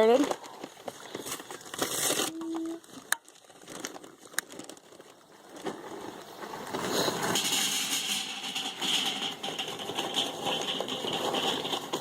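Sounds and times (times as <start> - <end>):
fire rushing and crackling: 0.4 - 12.0.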